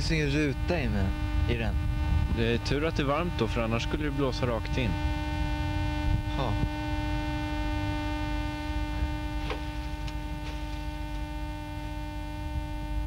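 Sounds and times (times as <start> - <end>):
electrical hum and buzz: 0.0 - 13.0
low rumble: 0.0 - 13.0.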